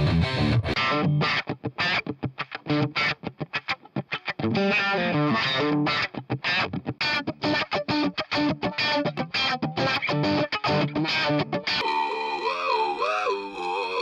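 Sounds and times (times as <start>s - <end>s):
distorted electric guitar stabs: 0.0s - 3.2s, 4.1s - 14.0s.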